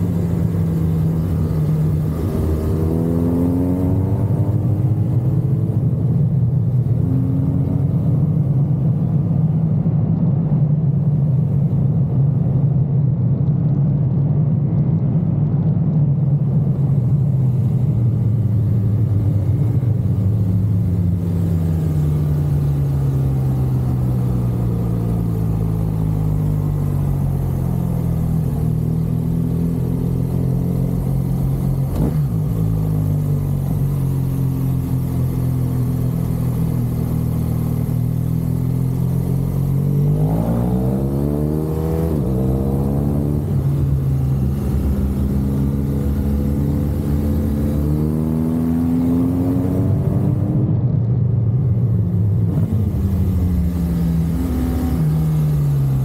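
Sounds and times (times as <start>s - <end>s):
motorcycle engine accelerating: 0.0s - 10.6s, 16.3s - 56.0s.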